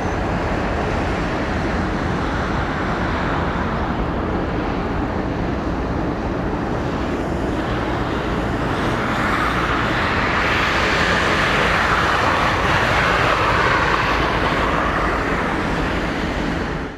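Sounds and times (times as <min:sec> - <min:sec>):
jet airliner engines rushing: 0:00.0 - 0:16.9.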